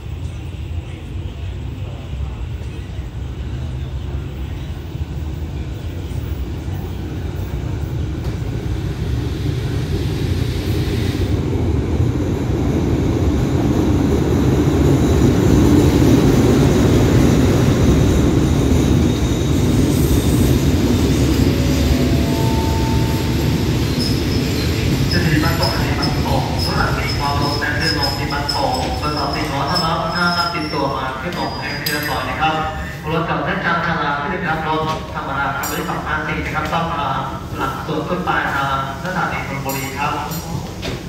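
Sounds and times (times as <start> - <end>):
diesel locomotives rumbling: 0.0 - 41.0
train coaches rolling by: 0.0 - 41.0.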